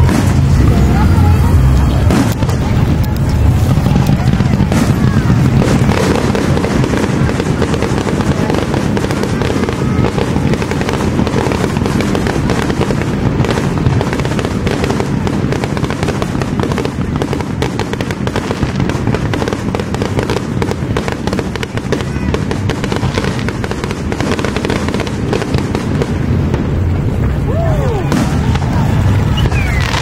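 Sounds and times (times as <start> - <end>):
fireworks crackling pops: 0.0 - 30.0
low booming rumble: 0.0 - 30.0.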